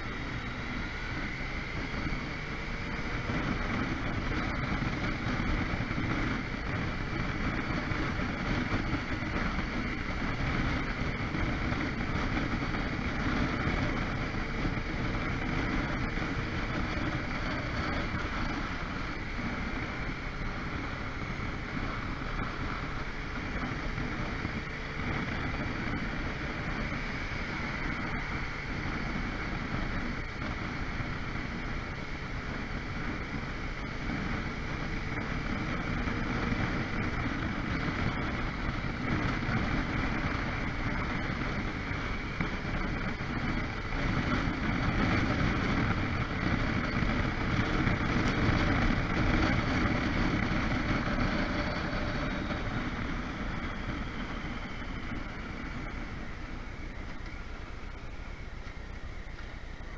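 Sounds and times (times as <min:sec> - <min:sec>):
motorcycle engine: 0:00.0 - 0:59.9
road noise: 0:00.0 - 0:59.9
wind noise on microphone: 0:00.0 - 0:59.9.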